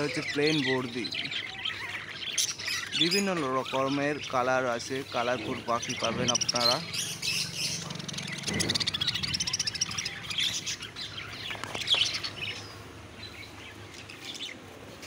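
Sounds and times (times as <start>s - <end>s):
budgerigars chattering and chirping: 0.0s - 14.6s.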